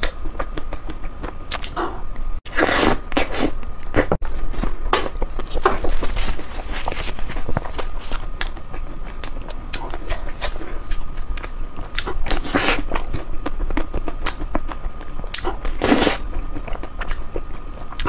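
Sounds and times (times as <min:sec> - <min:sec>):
person eating with wet mouth sounds: 0:00.0 - 0:18.0.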